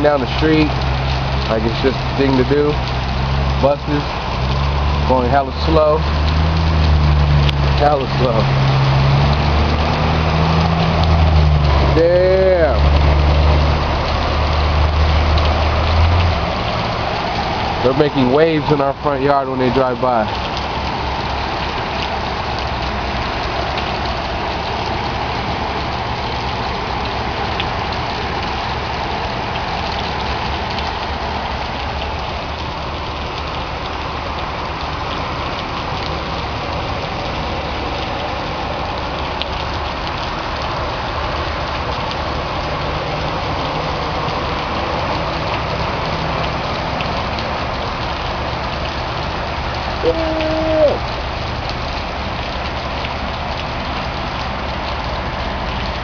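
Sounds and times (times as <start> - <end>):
vehicle engines humming: 0.0 - 52.0
heavy rain falling: 0.0 - 56.0.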